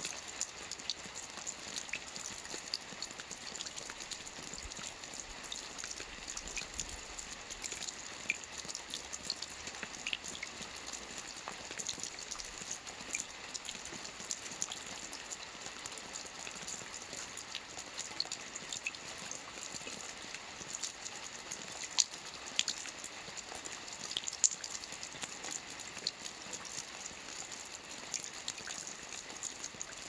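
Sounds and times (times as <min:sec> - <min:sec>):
soft rain on a roof: 0:00.0 - 0:30.0.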